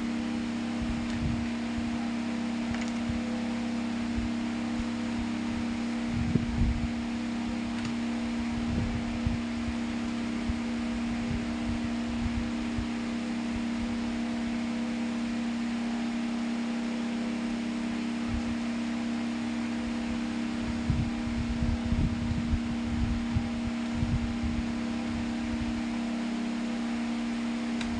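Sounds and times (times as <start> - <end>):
table fan humming: 0.0 - 27.9.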